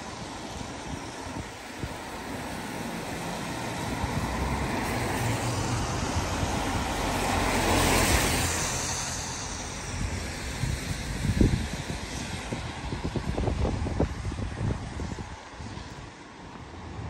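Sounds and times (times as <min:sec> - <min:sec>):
tyres hissing on wet road: 0:00.0 - 0:17.0.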